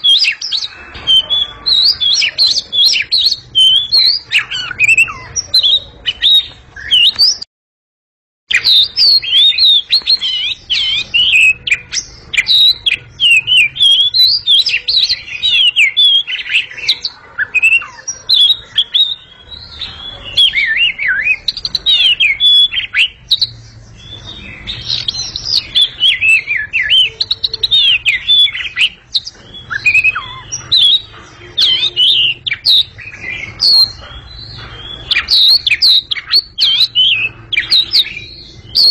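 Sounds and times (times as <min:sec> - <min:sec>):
bird singing whistles and chirps: 0:00.0 - 0:07.5, 0:08.5 - 0:38.9.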